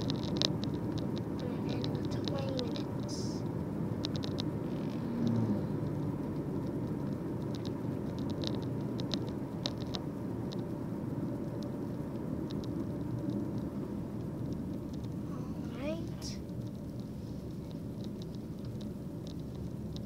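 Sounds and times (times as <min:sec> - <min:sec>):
light ticks: 0:00.0 - 0:10.7, 0:11.4 - 0:15.2, 0:16.2 - 0:20.0
road rumble inside car: 0:00.0 - 0:20.0.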